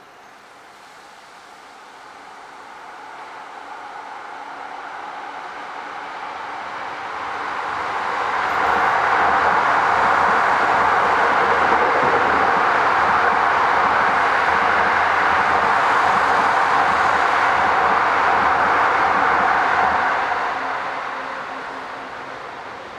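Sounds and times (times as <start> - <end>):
freight train wheels rumbling: 3.0 - 22.9.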